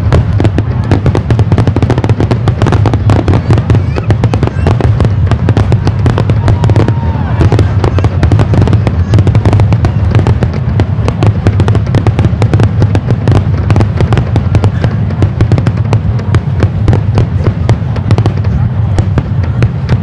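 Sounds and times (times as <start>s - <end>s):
fireworks cracking: 0.0s - 20.0s.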